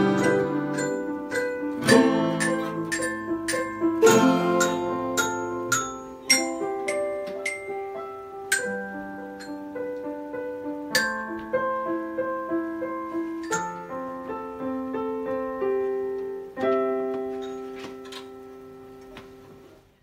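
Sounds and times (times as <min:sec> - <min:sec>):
piano and glockenspiel ballad: 0:00.0 - 0:19.2.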